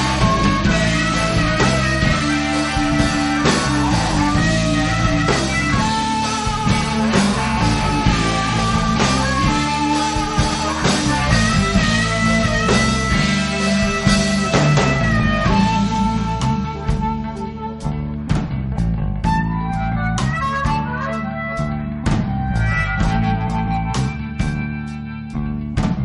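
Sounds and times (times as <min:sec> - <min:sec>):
rock music with guitar: 0:00.0 - 0:26.0.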